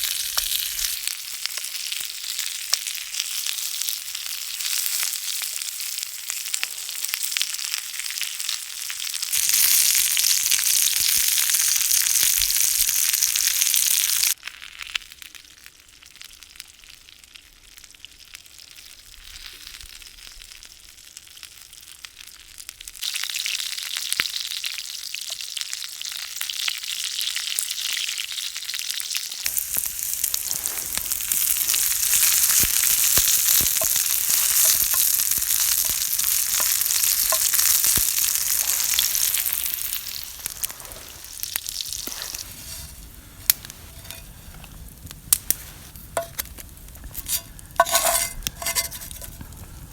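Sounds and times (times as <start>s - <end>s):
food sizzling in a pan: 0.0s - 49.8s.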